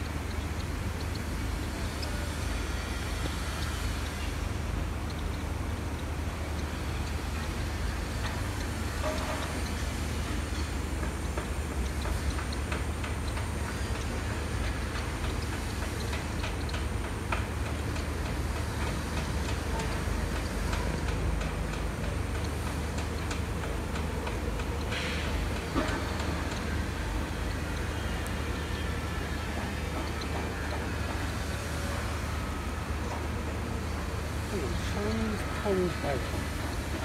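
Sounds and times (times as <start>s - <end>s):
faint irregular ticks and clicks: 0.0s - 37.0s.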